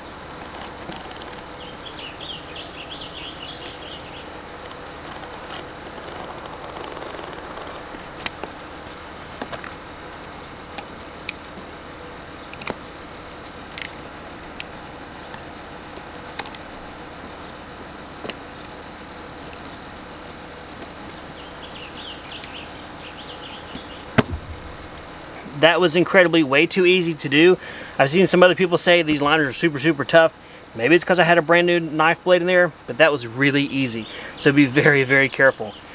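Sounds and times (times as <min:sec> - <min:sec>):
steady background noise: 0:00.0 - 0:35.9.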